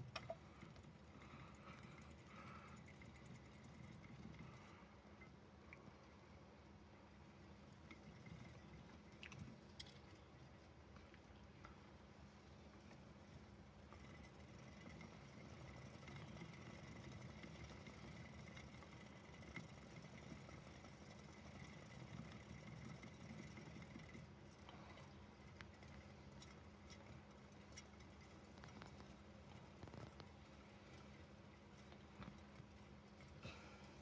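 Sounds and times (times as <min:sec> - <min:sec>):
hamster wheel whirring: 0:00.0 - 0:34.0
small ticks and scratches: 0:00.0 - 0:34.0.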